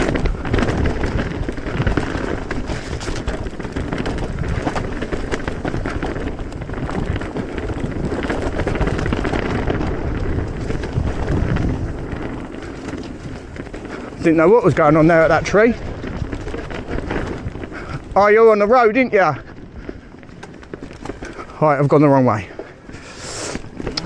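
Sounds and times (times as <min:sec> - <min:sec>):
bike knocking and rattling: 0:00.0 - 0:24.0
bike tyre noise: 0:00.0 - 0:24.0
wind rushing over microphone: 0:00.0 - 0:24.0.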